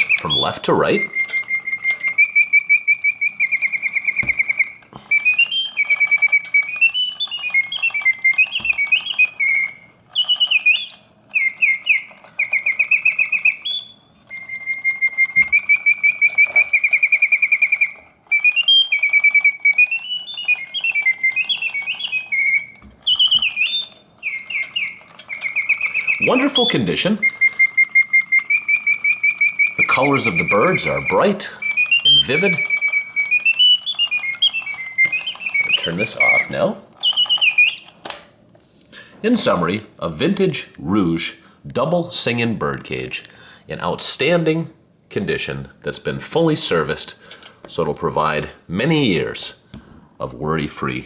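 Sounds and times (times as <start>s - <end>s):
mechanical birdsong whistle: 0.0s - 38.3s, 46.3s - 49.6s.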